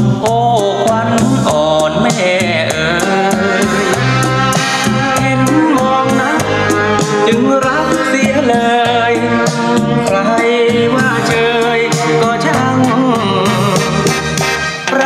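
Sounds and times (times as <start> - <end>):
song played through speakers: 0.0 - 15.0.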